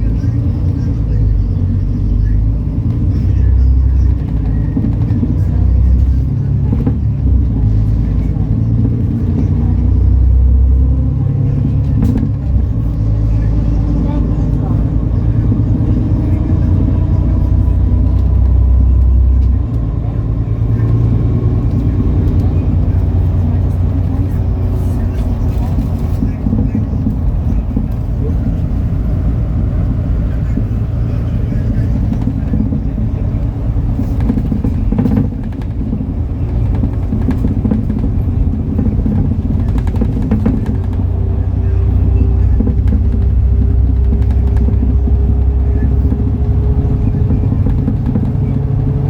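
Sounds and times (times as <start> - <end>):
bus engine rumbling: 0.0 - 49.0.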